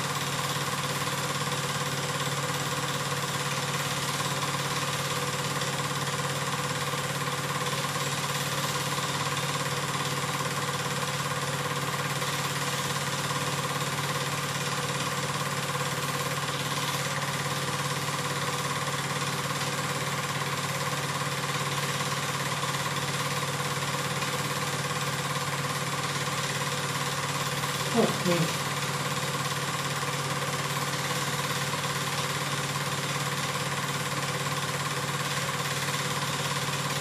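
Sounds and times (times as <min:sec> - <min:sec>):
film projector whirring: 0:00.0 - 0:37.0.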